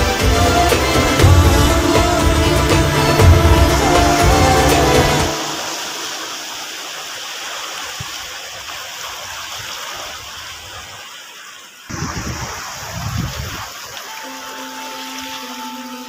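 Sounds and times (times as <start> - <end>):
sea waves washing over rocks: 0.0 - 16.0.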